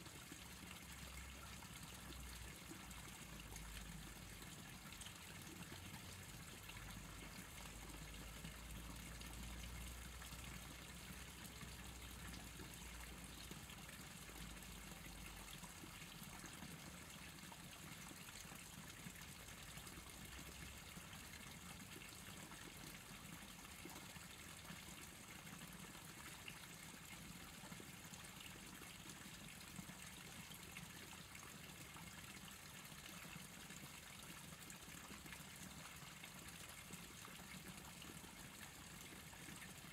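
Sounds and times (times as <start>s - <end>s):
outdoor ambient hiss: 0.0s - 39.9s.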